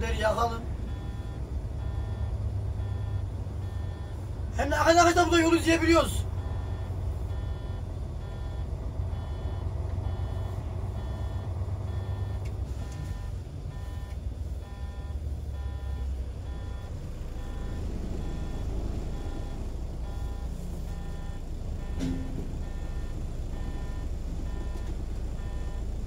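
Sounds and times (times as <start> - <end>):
coach engine droning: 0.0 - 26.0
short electronic beeps: 0.9 - 4.2, 5.5 - 25.9.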